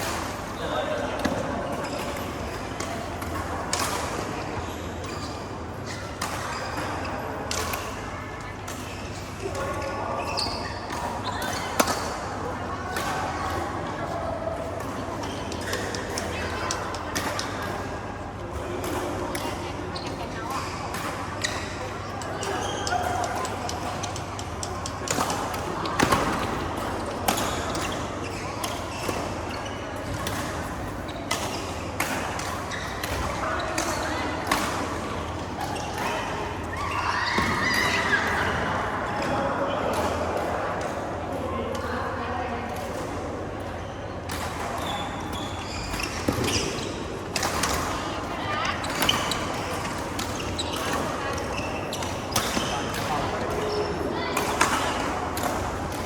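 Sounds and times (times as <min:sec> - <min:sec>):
murmur of people: 0:00.0 - 0:56.0.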